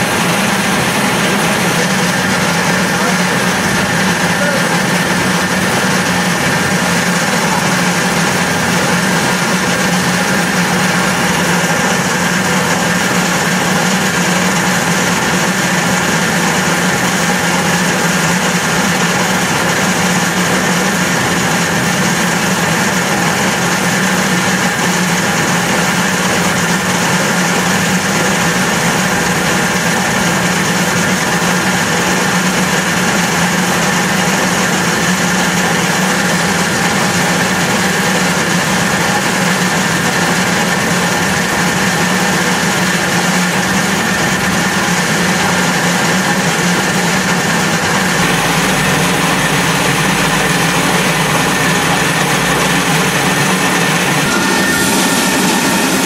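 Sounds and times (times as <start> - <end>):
rice milling machine running: 0.0 - 56.0.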